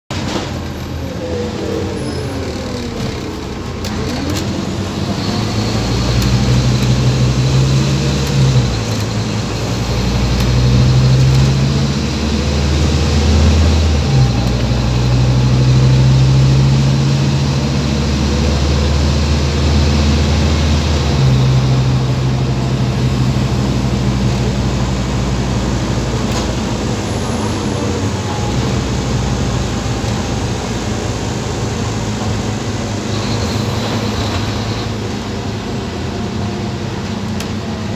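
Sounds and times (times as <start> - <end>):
bus diesel engine changing gears: 0.1 - 37.9
road noise: 0.1 - 37.9.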